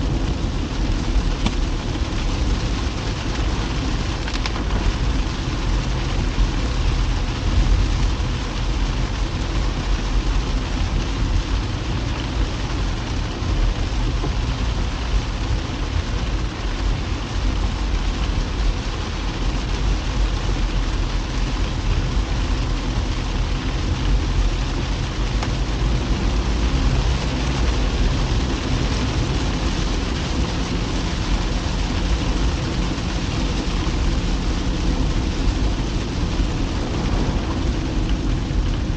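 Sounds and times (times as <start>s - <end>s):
car engine and road noise: 0.0s - 38.9s
rain hissing: 0.0s - 38.9s.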